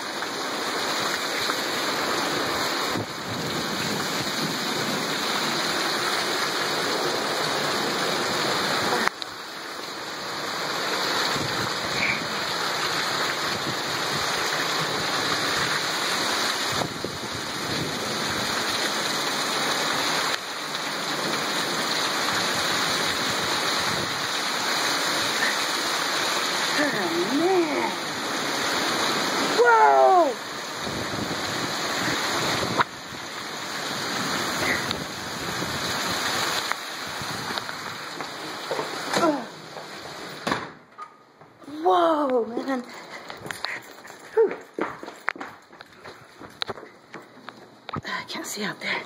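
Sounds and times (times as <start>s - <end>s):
torrential rain pouring: 0.0s - 40.5s, 41.6s - 45.4s, 47.7s - 49.0s.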